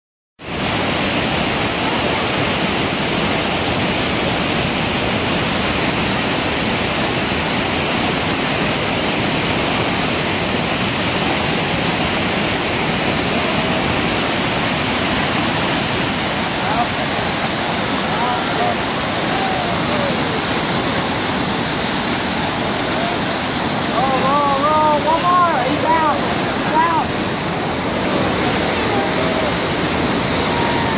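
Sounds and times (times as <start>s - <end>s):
river rushing over boulders: 0.4s - 30.9s.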